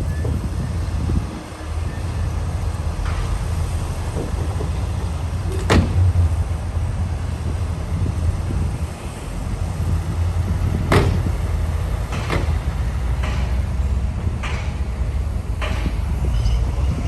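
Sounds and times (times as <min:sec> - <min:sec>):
diesel machine low rumble: 0:00.0 - 0:17.0.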